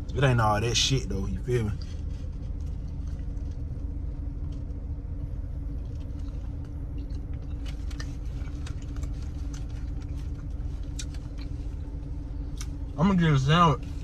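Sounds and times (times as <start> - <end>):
low rumble with hum: 0.0 - 14.0.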